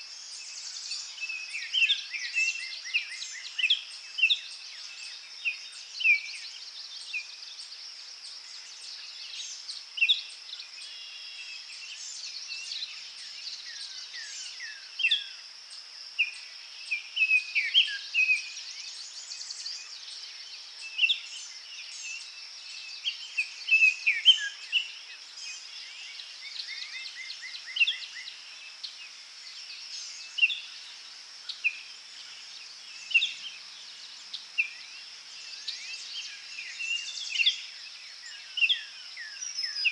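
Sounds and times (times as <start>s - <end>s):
high insect-like hiss: 0.0s - 39.9s.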